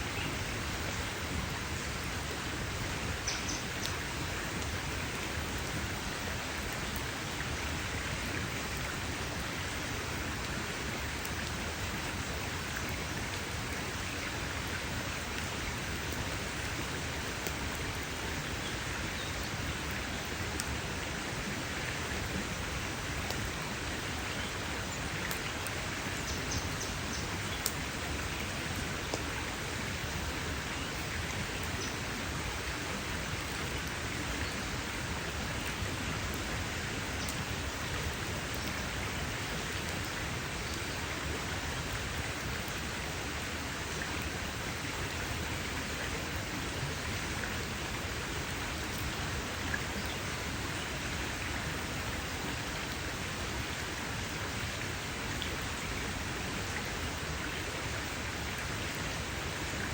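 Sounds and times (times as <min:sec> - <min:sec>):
campfire crackling: 0:00.3 - 0:54.3.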